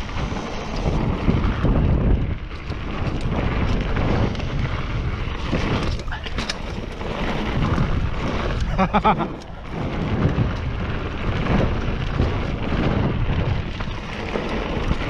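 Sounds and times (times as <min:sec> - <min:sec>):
bike rattling: 0:00.0 - 0:15.0
tyres rumbling on dirt: 0:00.0 - 0:15.0
wind buffeting microphone: 0:00.0 - 0:15.0.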